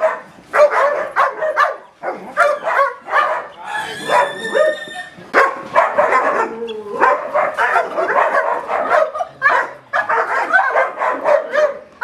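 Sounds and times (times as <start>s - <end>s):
dog barking rapidly: 0.0s - 12.0s.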